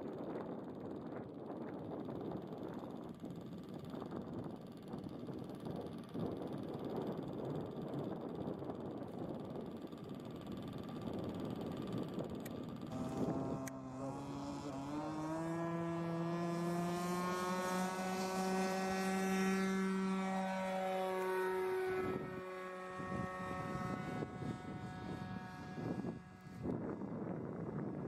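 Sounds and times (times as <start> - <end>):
wind noise on microphone: 0.0 - 28.0
model plane engine revving: 0.1 - 27.8.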